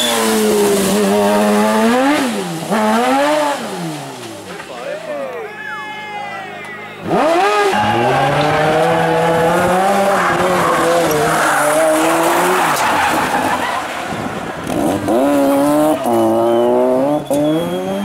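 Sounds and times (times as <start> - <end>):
rally car engine at high revs: 0.0 - 4.7, 7.0 - 18.0.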